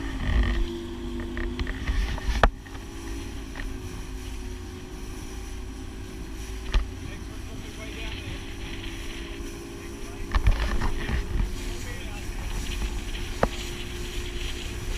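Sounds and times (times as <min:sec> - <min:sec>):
boat motor humming: 0:00.0 - 0:14.9
wind rumbling on microphone: 0:00.0 - 0:14.9.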